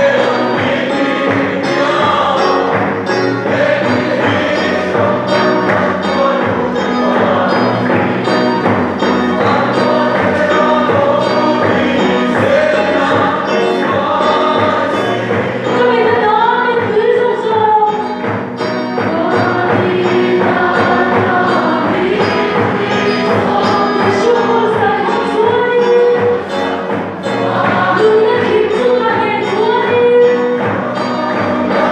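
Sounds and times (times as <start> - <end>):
congregation singing gospel song: 0.0 - 31.9
keyboard accompaniment: 0.0 - 31.9
steady drum beat: 0.0 - 31.9.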